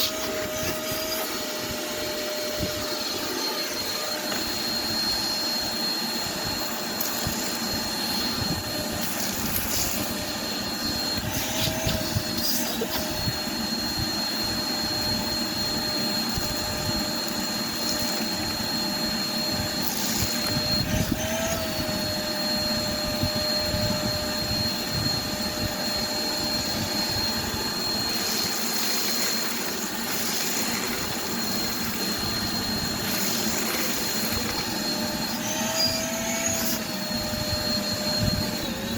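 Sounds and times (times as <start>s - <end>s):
shop vacuum whining: 0.0s - 38.9s.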